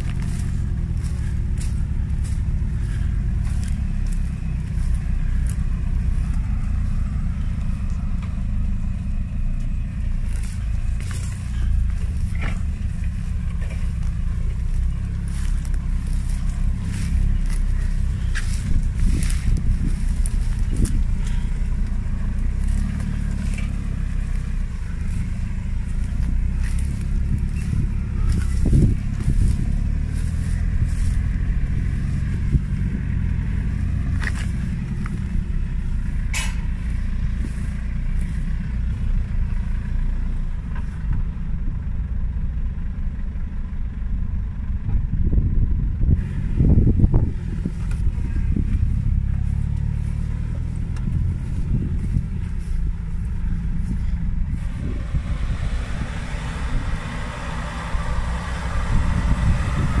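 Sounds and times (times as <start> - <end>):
off-road vehicle engine rumbling: 0.0 - 60.0.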